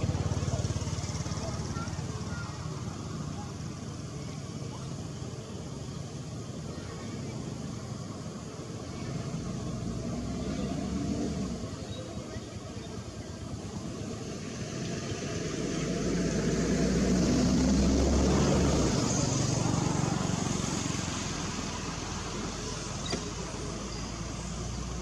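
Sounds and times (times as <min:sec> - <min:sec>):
motor vehicle passing by: 0:00.0 - 0:07.1, 0:08.0 - 0:25.0.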